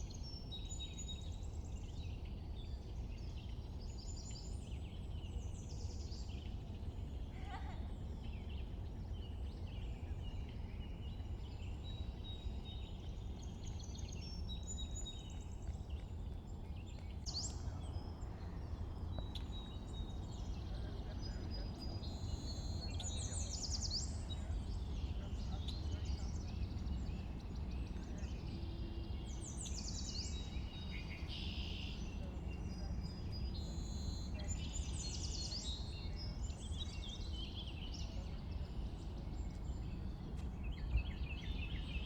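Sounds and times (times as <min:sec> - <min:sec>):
songbirds chirping and trilling: 0:00.0 - 0:42.0.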